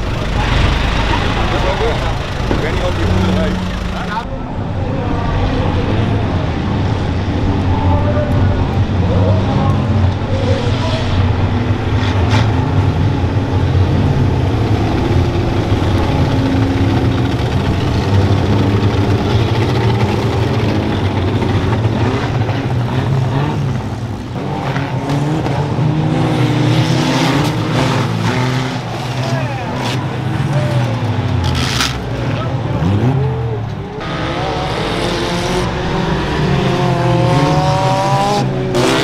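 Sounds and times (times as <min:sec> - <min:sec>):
racing car engines revving: 0:00.0 - 0:39.0.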